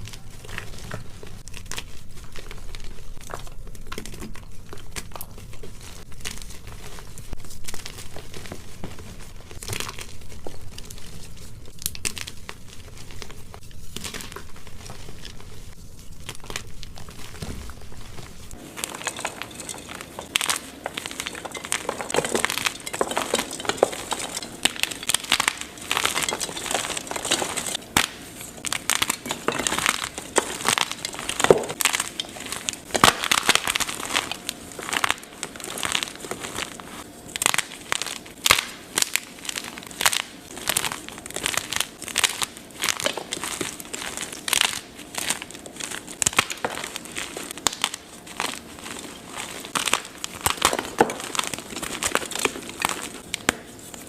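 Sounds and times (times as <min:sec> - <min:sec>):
chalk crunching and crumbling: 0:00.0 - 0:54.0.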